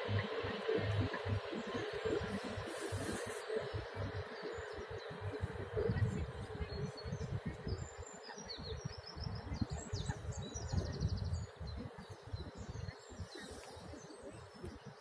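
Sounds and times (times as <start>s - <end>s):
small birds chirping: 0.0s - 15.0s
wind gusting against microphone: 0.0s - 15.0s.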